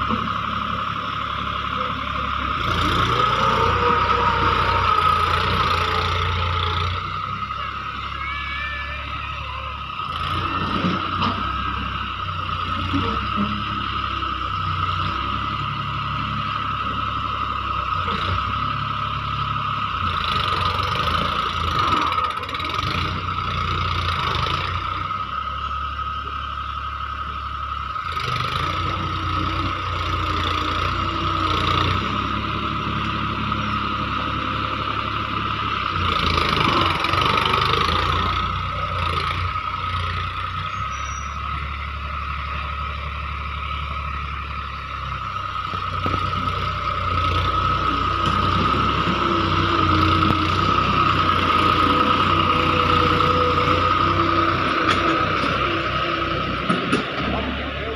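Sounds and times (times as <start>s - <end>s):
constant high whine: 0.0s - 57.9s
tractor engine running: 0.0s - 57.9s.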